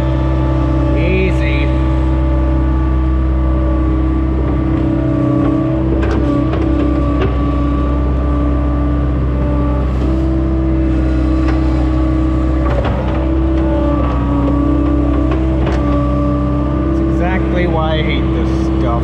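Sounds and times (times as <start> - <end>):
farm machine engine running: 0.0 - 19.0.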